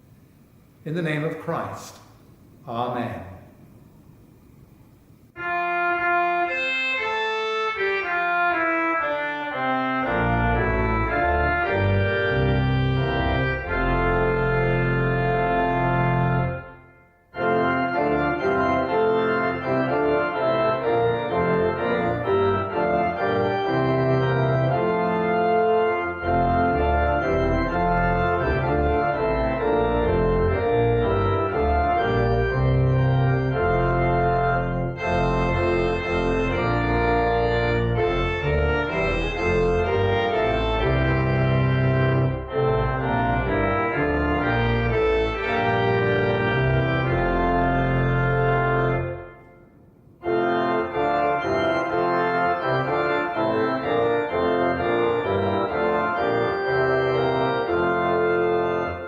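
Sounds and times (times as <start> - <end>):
church organ chords: 0.0 - 59.0
deep organ pedal bass: 5.4 - 49.6, 50.2 - 59.0.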